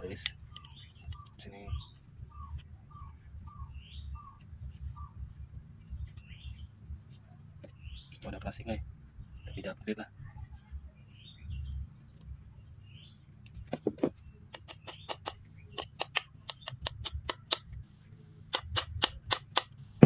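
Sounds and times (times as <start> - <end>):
faint bird chirps: 0.0 - 16.9.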